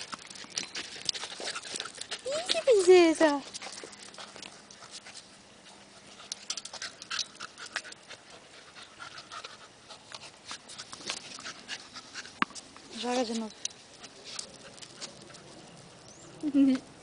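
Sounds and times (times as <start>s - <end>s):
dog panting: 0.0s - 15.7s.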